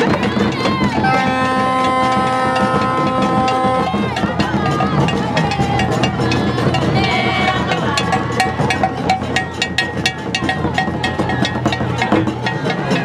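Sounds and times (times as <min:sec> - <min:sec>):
pitched sounds: 0:00.0 - 0:13.0
sharp percussion strikes: 0:00.0 - 0:13.0
voices: 0:00.0 - 0:13.0.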